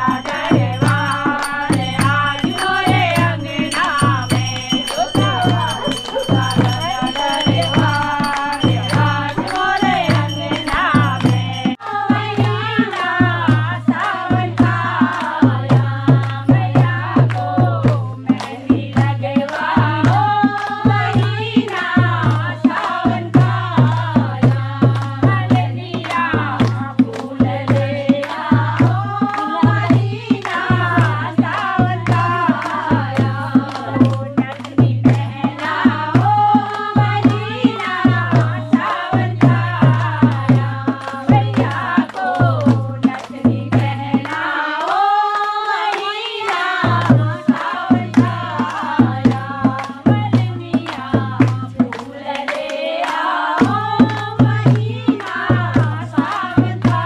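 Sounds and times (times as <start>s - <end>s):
hand claps: 0.0s - 57.0s
hand drum beat: 0.0s - 57.0s
women singing devotional song: 0.0s - 57.0s.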